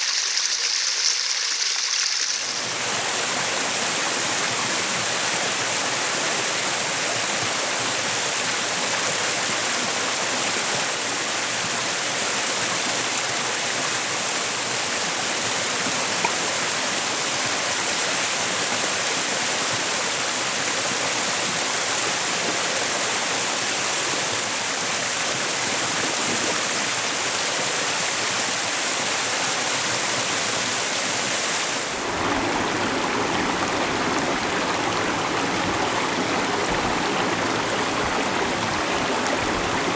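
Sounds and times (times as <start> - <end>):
stream with low rumble: 0.0 - 39.9
stream rushing and babbling: 1.1 - 39.9.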